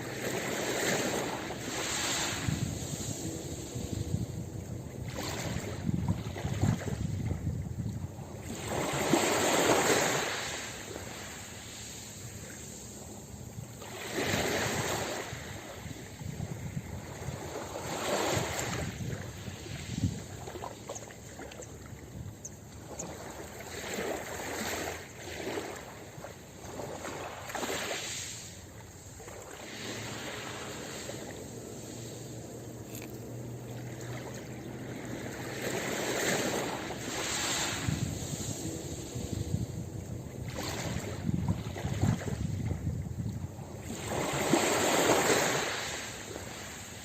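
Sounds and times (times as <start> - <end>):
ocean waves breaking on a beach: 0.0 - 47.0.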